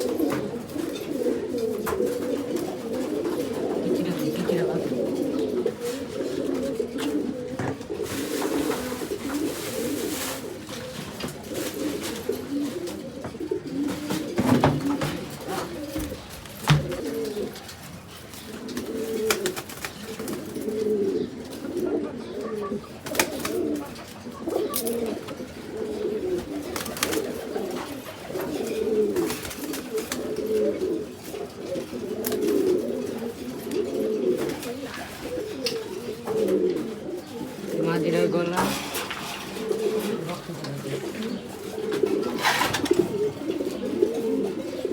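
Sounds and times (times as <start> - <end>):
pigeon cooing: 0.0 - 44.9.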